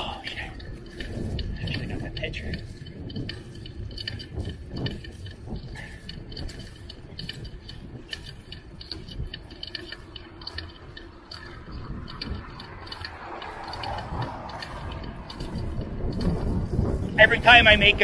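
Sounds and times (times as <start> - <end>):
bicycle freewheel ticking: 0.0 - 18.0
low rumble: 0.0 - 18.0.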